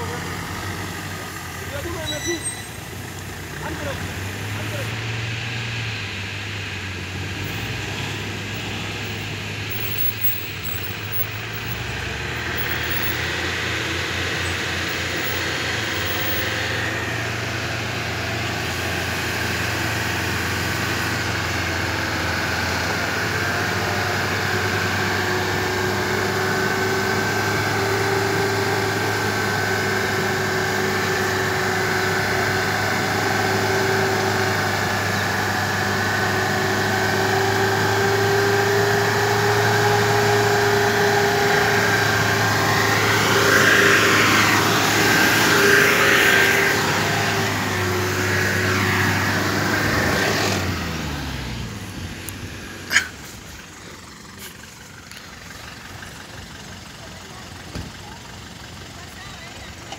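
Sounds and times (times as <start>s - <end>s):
engine running at low revs: 0.0s - 59.9s.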